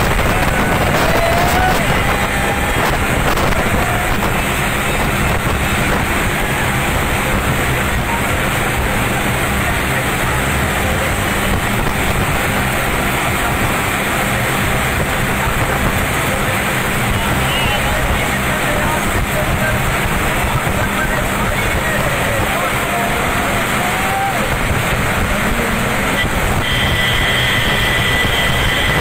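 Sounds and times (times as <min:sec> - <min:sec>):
diesel tractor engines running hard: 0:00.0 - 0:29.0
wind noise on microphone: 0:00.0 - 0:29.0.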